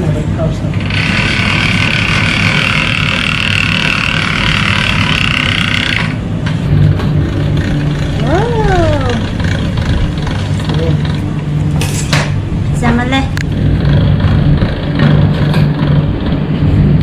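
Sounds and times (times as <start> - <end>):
kitchen machinery humming: 0.0 - 17.0.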